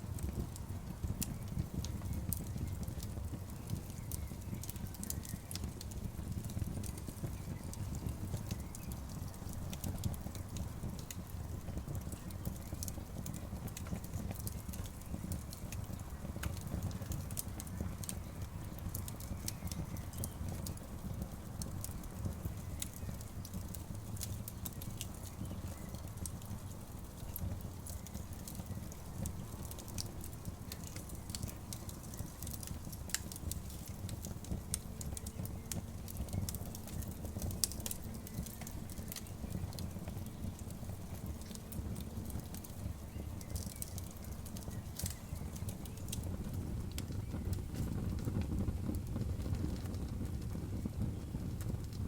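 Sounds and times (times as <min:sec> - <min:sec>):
campfire wood crackling: 0:00.0 - 0:52.0
low fire rumble: 0:00.0 - 0:52.0.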